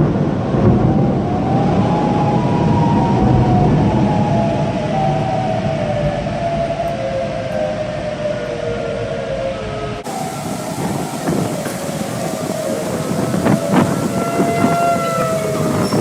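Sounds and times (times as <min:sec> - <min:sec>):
rumbling background: 0:00.0 - 0:16.0
tornado warning sirens: 0:00.0 - 0:16.0.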